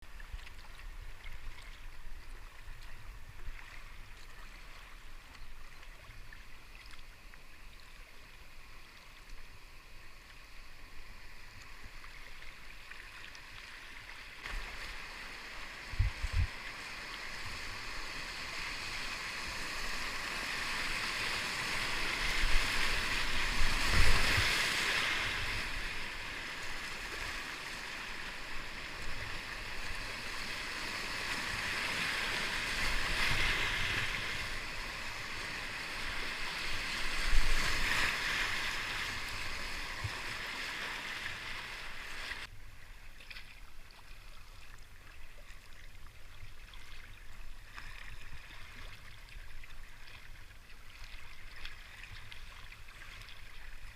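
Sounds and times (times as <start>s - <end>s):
rushing river water: 0.0s - 53.9s.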